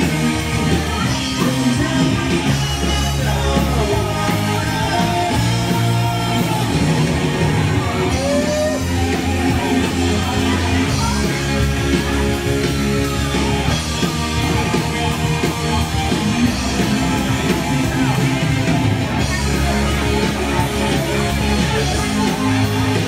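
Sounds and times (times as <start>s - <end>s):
loud rock music with singing: 0.0s - 23.0s.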